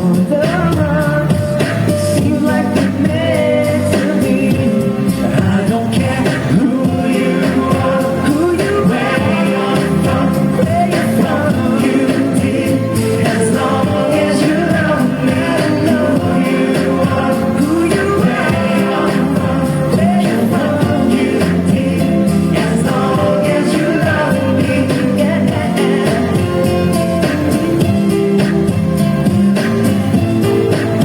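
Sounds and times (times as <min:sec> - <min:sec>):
loud song with singing: 0:00.0 - 0:31.0.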